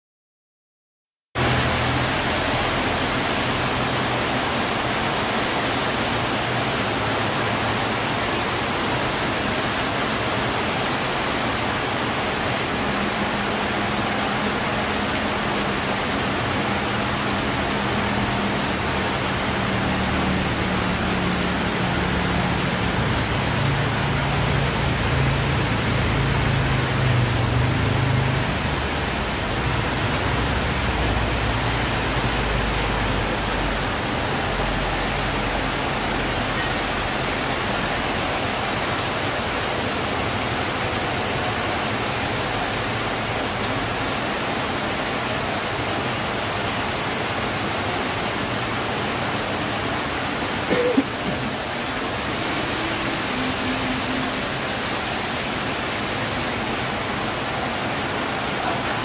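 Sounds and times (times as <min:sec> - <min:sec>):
heavy rain pouring: 0:01.4 - 0:59.0.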